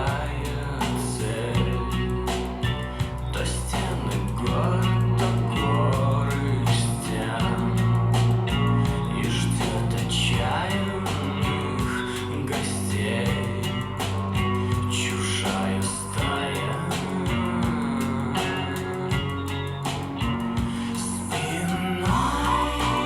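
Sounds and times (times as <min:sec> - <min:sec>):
rock song through speakers: 0:00.0 - 0:23.0.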